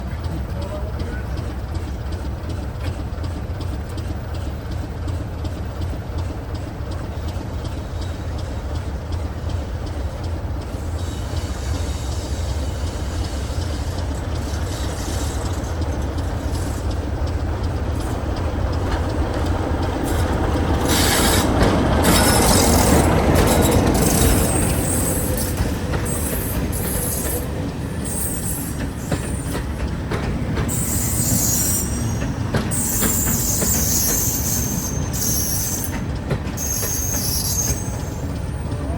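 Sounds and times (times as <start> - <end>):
diesel locomotive engine running: 0.0 - 38.9
brakes squealing and wheels clanking: 0.1 - 38.9.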